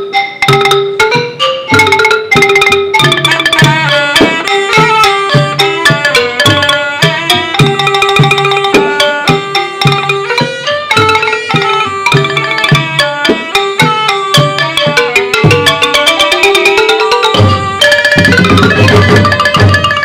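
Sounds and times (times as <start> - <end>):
hand drums and struck percussion: 0.0 - 20.0
steady drum beat: 0.4 - 20.0.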